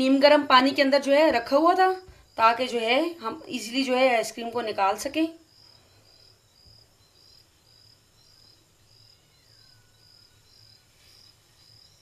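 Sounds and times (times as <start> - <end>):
cricket chirping: 0.2 - 12.0.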